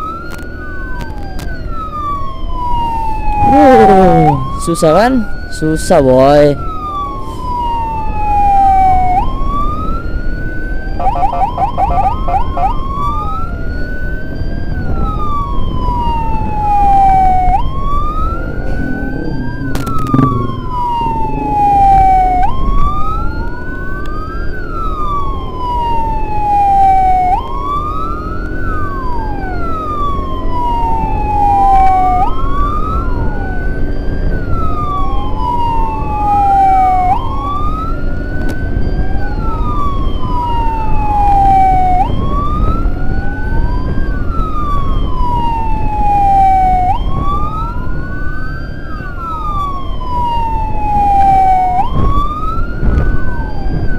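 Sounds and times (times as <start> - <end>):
emergency sirens wailing: 0.0 - 53.9
engine and traffic rumble: 0.0 - 53.9
fast siren warble: 0.0 - 53.9.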